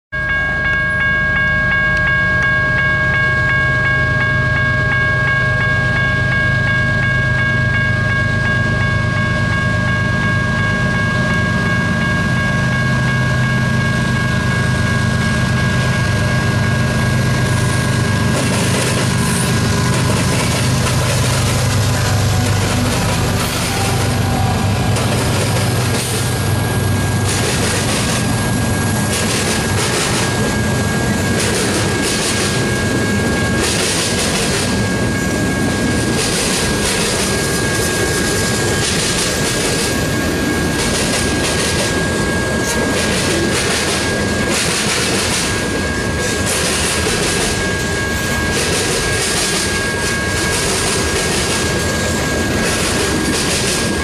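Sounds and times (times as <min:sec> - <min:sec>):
steel wheels on rail: 0:00.2 - 0:54.0
thin high tone: 0:00.2 - 0:54.0
locomotive engine hum: 0:00.6 - 0:54.0.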